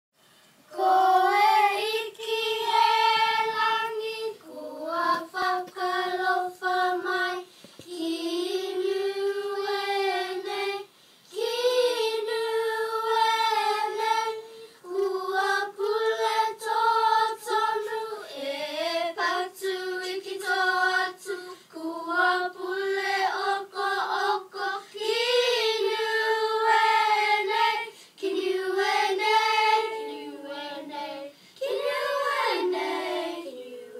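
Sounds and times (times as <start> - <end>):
children singing: 0.7 - 33.9.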